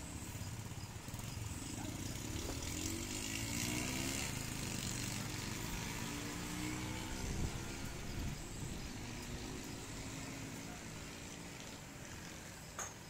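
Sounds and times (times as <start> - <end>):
low traffic rumble: 0.0 - 13.0
vehicle engine passing: 1.0 - 12.7.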